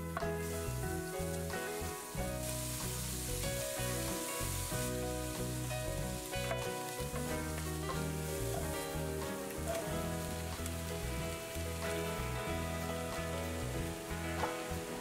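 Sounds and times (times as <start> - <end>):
food sizzling in a frying pan: 0.0 - 15.0
light background music: 0.0 - 15.0.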